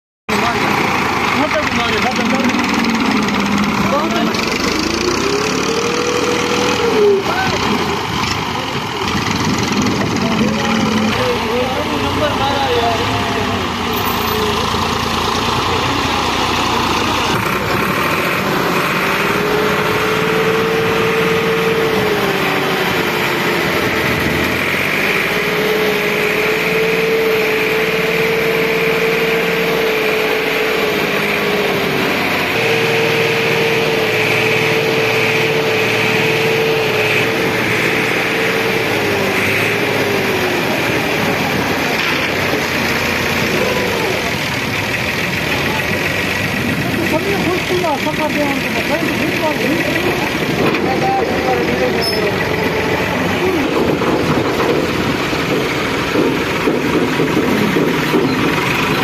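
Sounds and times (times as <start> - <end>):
tractor diesel engine revving: 0.3 - 59.0.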